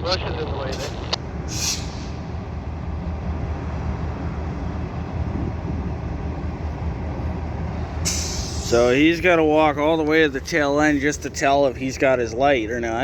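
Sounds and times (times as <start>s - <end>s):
diesel locomotives idling: 0.0s - 13.0s.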